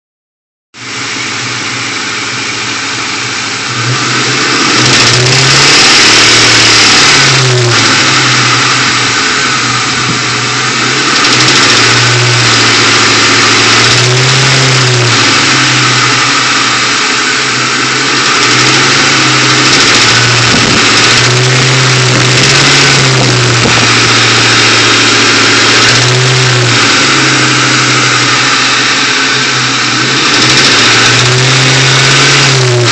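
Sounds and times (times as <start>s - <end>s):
car engine revving: 0.8s - 32.9s.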